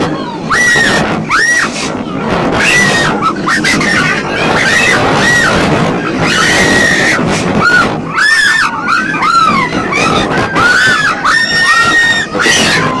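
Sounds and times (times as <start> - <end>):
wind rushing on microphone: 0.0 - 13.0
riders screaming: 0.4 - 1.8, 2.5 - 13.0.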